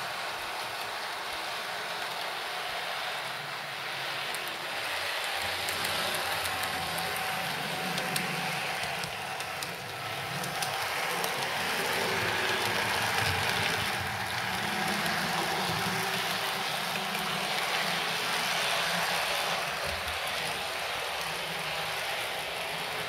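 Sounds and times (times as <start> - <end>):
model train motors whirring: 0.0 - 23.0.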